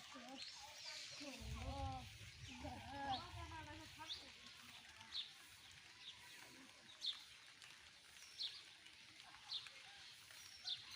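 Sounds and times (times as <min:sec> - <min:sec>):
faint outdoor background noise: 0:00.0 - 0:10.9.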